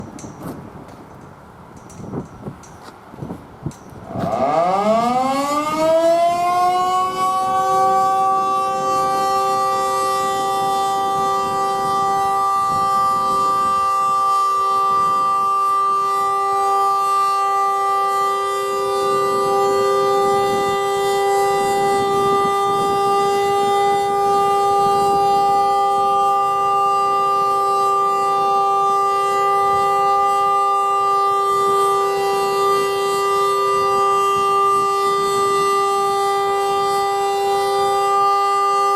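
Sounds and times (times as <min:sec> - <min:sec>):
outdoor warning siren steady tone: 0:04.0 - 0:38.9.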